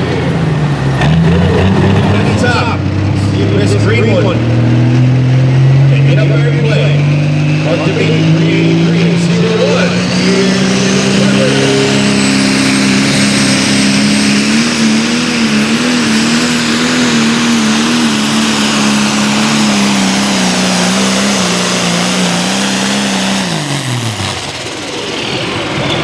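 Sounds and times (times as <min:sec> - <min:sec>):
diesel engine running flat out: 0:00.0 - 0:26.0.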